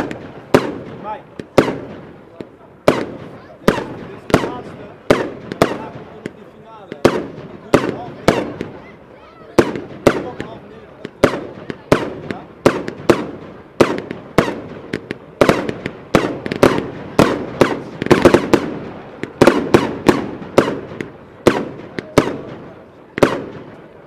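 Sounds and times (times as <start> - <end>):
firework cake bangs: 0.0 - 24.0.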